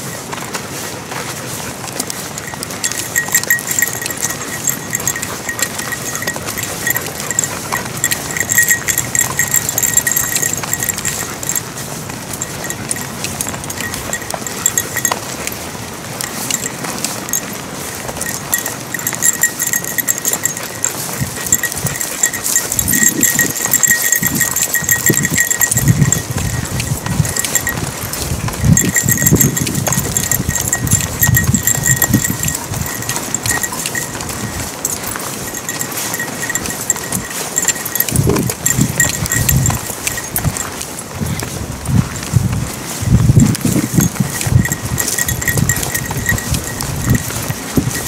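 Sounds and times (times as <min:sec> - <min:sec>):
footsteps on gravel: 0:00.0 - 0:48.0
small bell jingling: 0:00.0 - 0:48.0.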